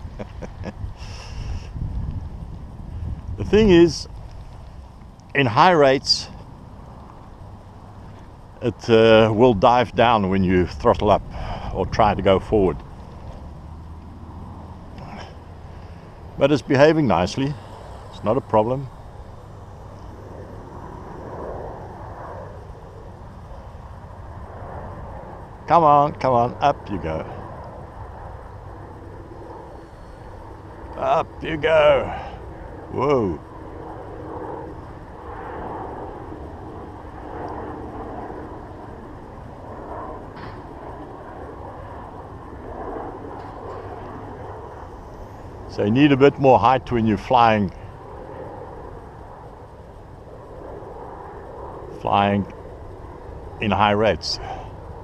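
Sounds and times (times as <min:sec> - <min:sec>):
wind buffeting microphone: 0:00.0 - 0:47.0
electric rotor motor whine: 0:00.0 - 0:55.0.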